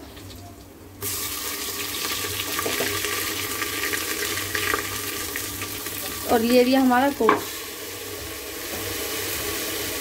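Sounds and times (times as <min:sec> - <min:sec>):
spices sizzling in hot oil: 0:01.0 - 0:10.0.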